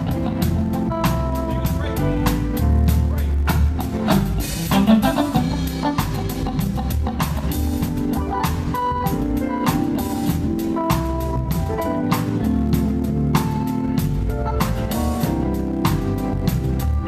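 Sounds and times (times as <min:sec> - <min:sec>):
bass: 0:00.0 - 0:17.0
drum kit beat: 0:00.0 - 0:17.0
guitar: 0:00.0 - 0:17.0
organ: 0:00.0 - 0:17.0.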